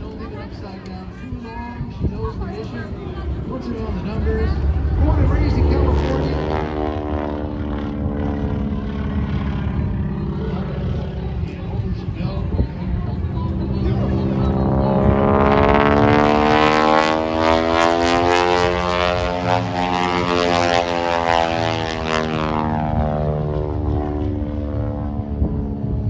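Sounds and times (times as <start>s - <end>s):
propeller airplane flying past: 0.0s - 26.0s.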